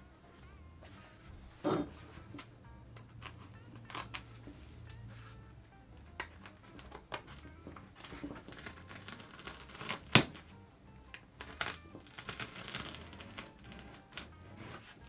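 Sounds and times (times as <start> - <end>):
clicks and taps of handled materials: 1.7 - 15.0.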